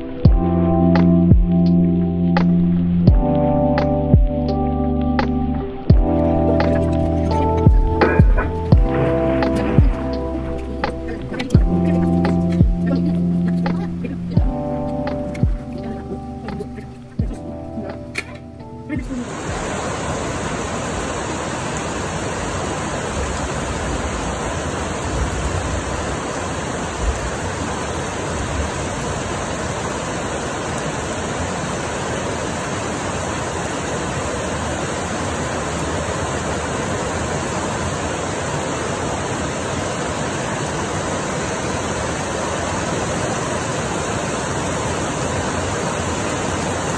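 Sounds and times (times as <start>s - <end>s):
steady rain falling: 3.9s - 18.3s, 19.0s - 46.9s.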